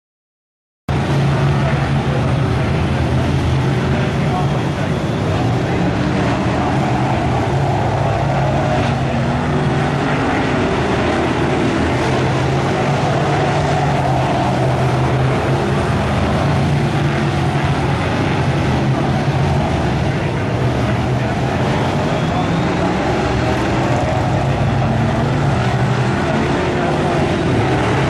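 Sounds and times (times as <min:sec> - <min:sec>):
racing car engines: 0:00.9 - 0:28.0.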